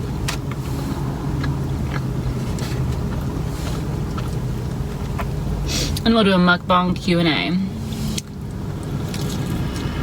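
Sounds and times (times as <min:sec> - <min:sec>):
person chewing food: 0:00.0 - 0:06.0, 0:07.8 - 0:10.0
vehicle engine idling: 0:00.0 - 0:10.0.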